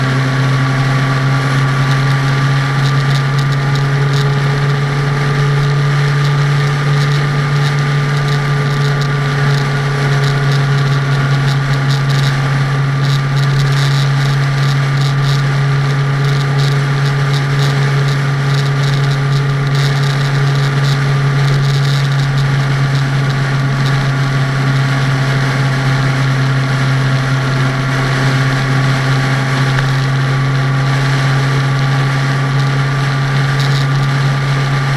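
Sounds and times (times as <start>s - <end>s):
road and wind noise: 0.0s - 34.9s
vehicle interior drone: 0.0s - 34.9s.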